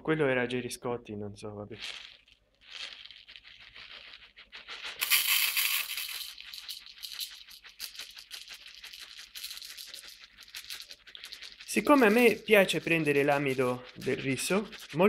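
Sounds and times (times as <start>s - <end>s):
rice grains pouring into cup: 1.8s - 15.0s.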